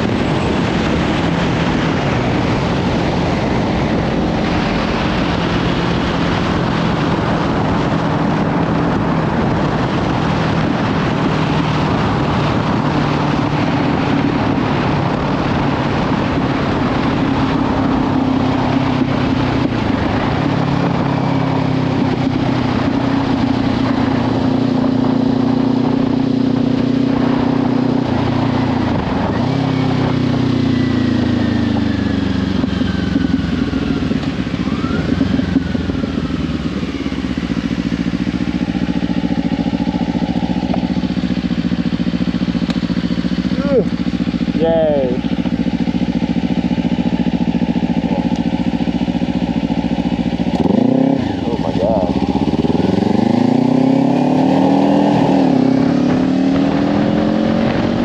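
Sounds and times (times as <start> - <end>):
motorcycle engine at road speed: 0.0 - 58.0
wind noise on microphone: 0.0 - 58.0.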